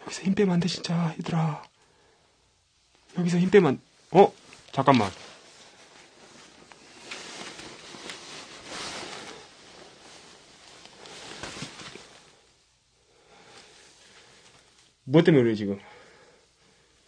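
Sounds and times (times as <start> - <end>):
rustling and handling noise: 0.6 - 15.0.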